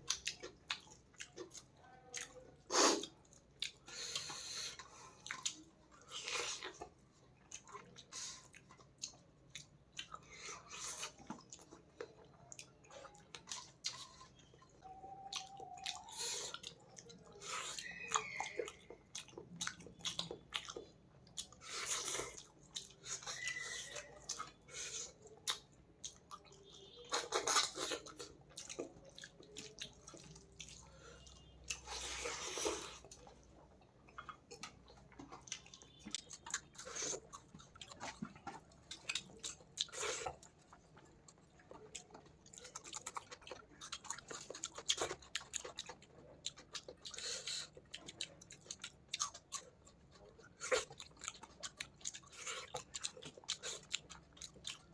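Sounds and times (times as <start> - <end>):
wet chewing and mouth sounds: 0.0 - 54.9.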